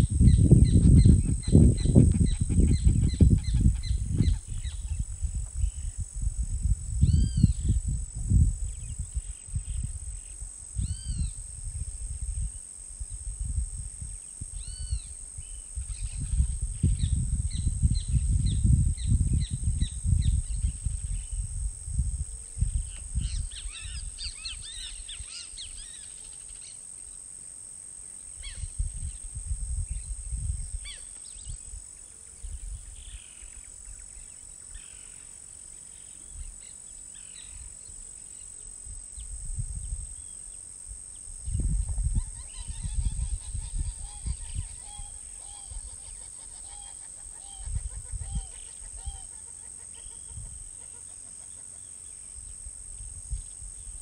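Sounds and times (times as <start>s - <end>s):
wind rumbling on microphone: 0.0s - 25.9s, 28.4s - 35.0s, 38.9s - 49.3s, 50.0s - 50.8s, 52.3s - 54.0s
insect drone: 0.0s - 54.0s.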